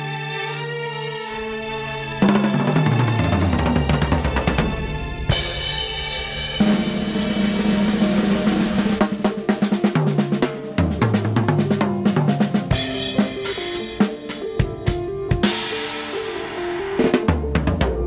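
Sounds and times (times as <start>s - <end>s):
acoustic drum kit playing: 2.2s - 18.0s.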